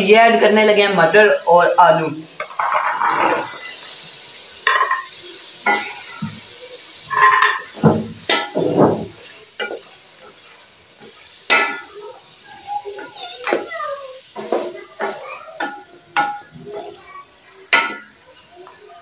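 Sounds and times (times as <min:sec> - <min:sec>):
ghee sizzling: 0:00.0 - 0:19.0.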